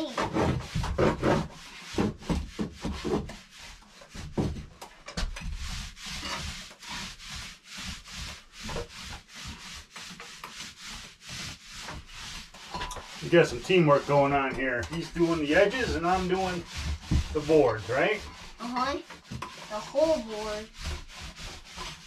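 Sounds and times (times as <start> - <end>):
applicator rubbing on wood: 0.0 - 22.0.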